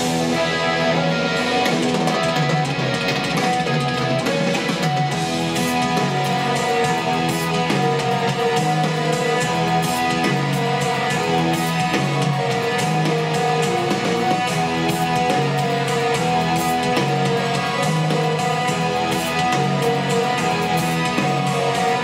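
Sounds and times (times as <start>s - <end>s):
guitar music through small speakers: 0.0s - 22.0s.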